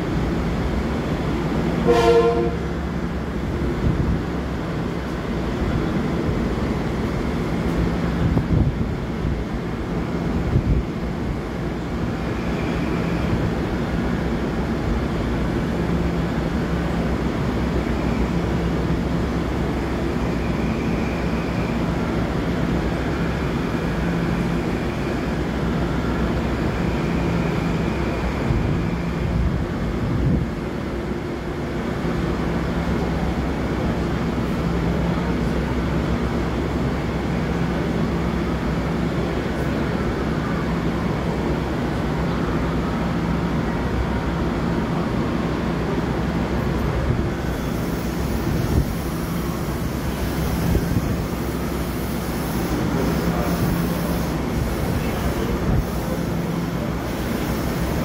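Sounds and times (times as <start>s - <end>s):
diesel train rumbling: 0.0s - 58.0s.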